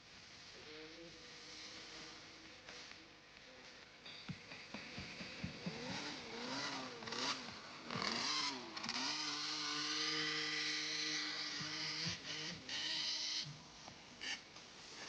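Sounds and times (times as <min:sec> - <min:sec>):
motocross bike engines revving: 0:00.6 - 0:15.0.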